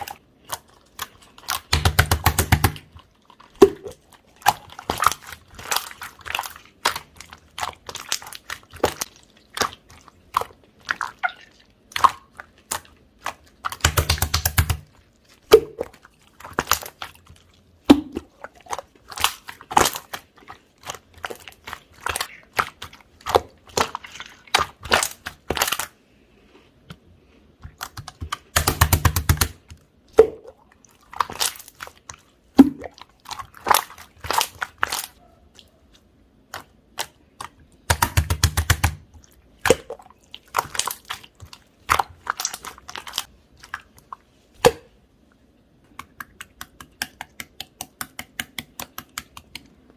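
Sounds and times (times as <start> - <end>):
slime squishing and popping: 0.0 - 26.0, 27.6 - 35.2, 36.4 - 44.0.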